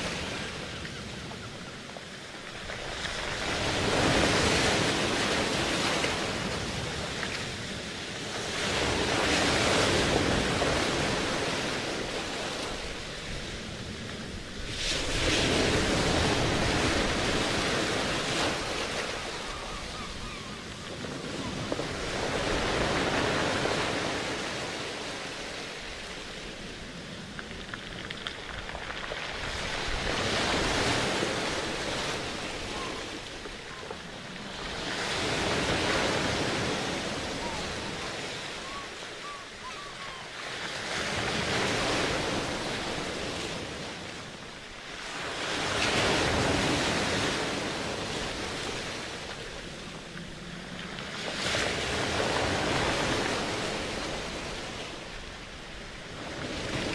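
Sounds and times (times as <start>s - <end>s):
ocean waves washing in: 0.0s - 56.9s.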